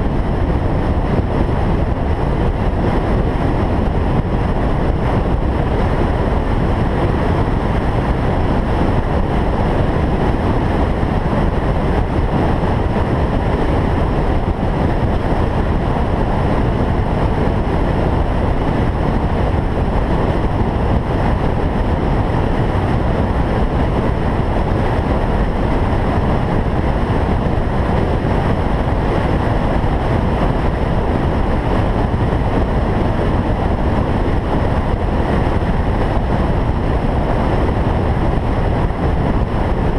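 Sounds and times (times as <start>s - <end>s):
car road and running noise: 0.0s - 39.9s.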